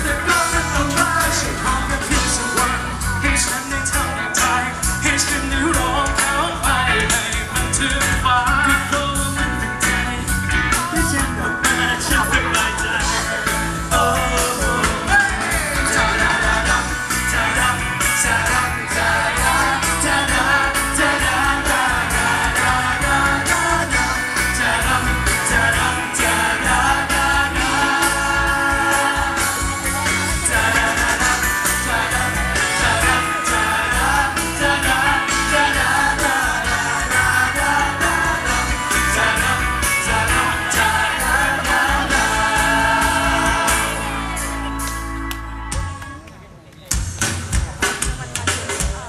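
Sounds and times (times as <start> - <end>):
men singing into microphones: 0.0 - 44.6
drum kit beat: 0.0 - 46.0, 46.9 - 49.0
live band playing: 0.0 - 49.0.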